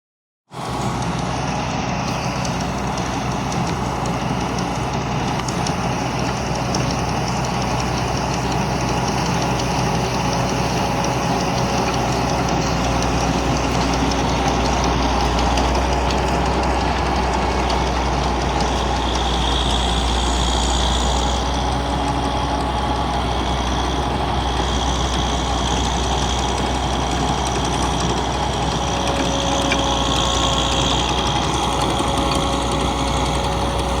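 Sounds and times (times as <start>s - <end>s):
harvesting machine droning: 0.5s - 34.0s.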